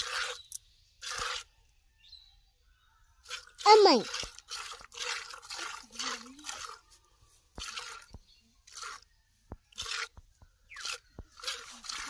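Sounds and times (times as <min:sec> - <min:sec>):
milk squirting into plastic bucket: 0:00.0 - 0:01.6, 0:03.2 - 0:12.0.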